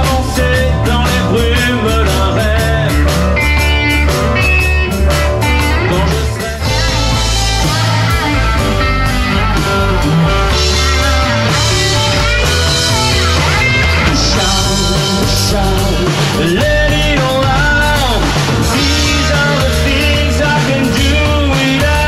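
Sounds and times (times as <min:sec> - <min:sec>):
bass guitar: 0:00.0 - 0:22.0
drum kit: 0:00.0 - 0:22.0
electric guitar: 0:00.0 - 0:22.0
keyboard: 0:00.0 - 0:22.0.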